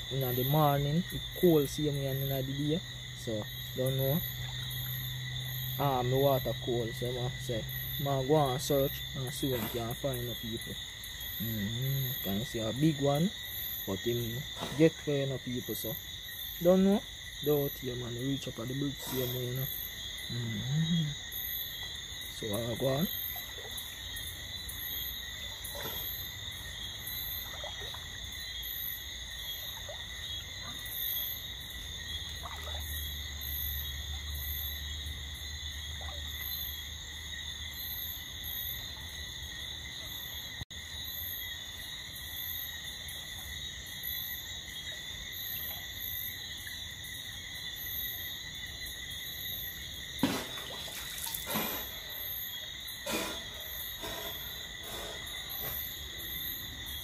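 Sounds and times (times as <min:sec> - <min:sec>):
high insect chirp: 0:00.0 - 0:57.0
insects trilling: 0:00.0 - 0:57.0.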